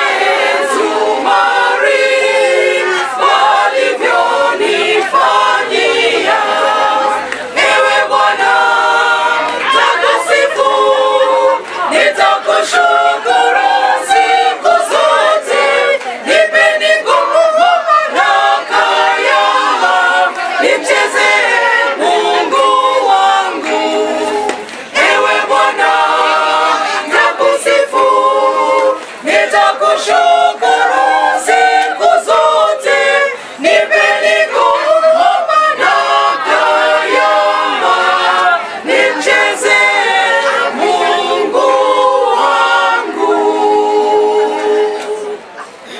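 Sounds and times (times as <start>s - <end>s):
choir singing a cappella: 0.0s - 45.9s.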